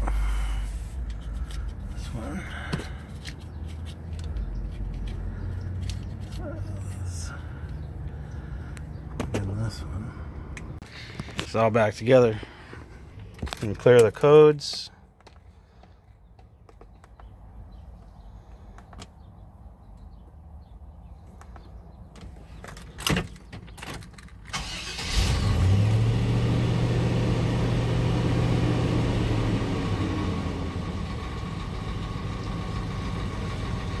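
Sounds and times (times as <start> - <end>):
car engine cranking and idling: 0.0 - 17.3, 21.4 - 34.0.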